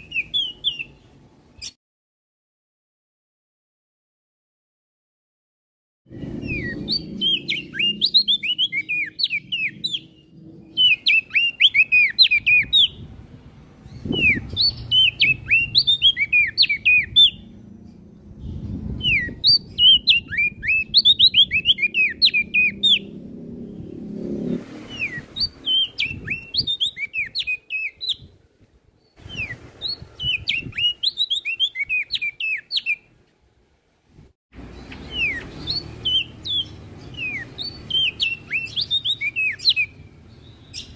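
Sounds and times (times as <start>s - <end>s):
bird singing sliding chirps: 0.0s - 1.8s, 6.1s - 13.2s, 13.8s - 28.3s, 29.0s - 33.1s, 34.6s - 40.9s.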